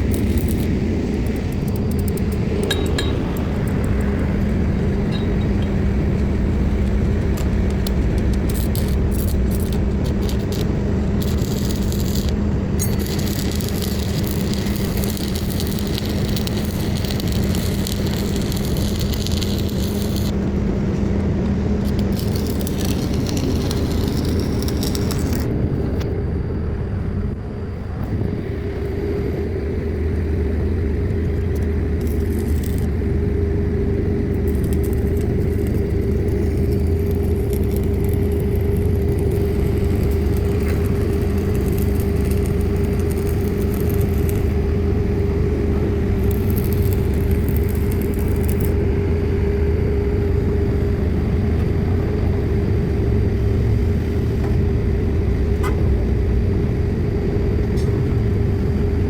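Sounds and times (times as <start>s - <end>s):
constant machine whine: 0.0s - 59.0s.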